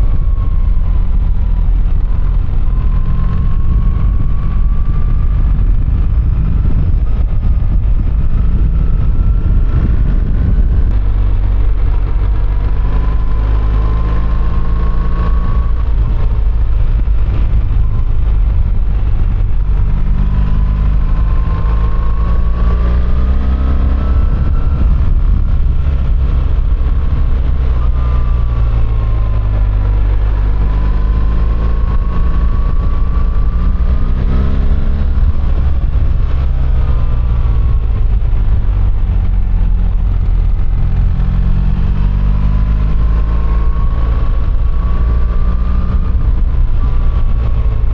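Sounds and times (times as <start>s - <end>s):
motorcycle engine revving: 0.0s - 47.9s
wind and road noise: 0.0s - 47.9s.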